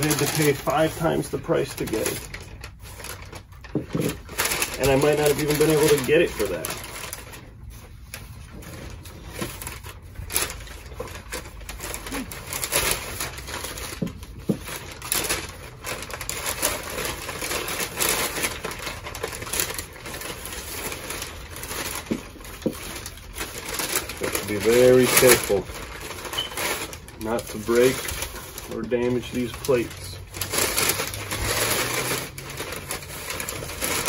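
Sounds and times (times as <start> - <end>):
packing paper rustling and crinkling: 0.0 - 34.0.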